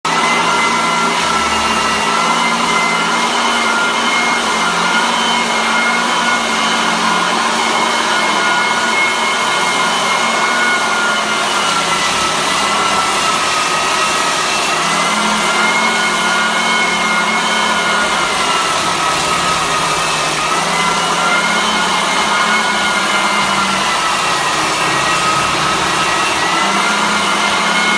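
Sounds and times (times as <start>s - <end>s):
floor sanding machine whine: 0.1s - 27.9s.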